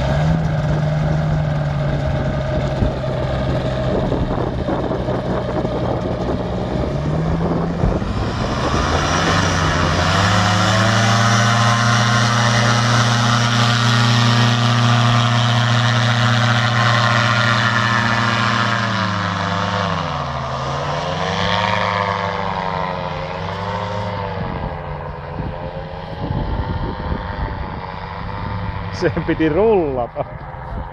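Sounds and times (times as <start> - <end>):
engine and propeller droning: 0.0 - 30.9.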